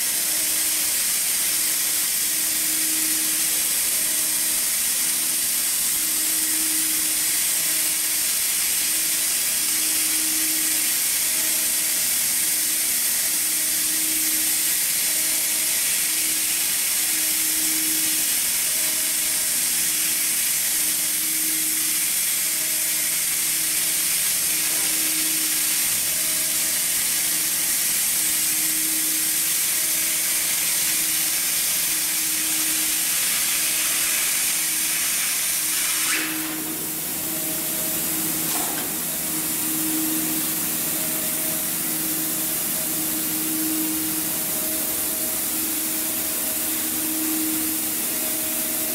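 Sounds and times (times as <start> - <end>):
hot air blower hissing: 0.0 - 48.9.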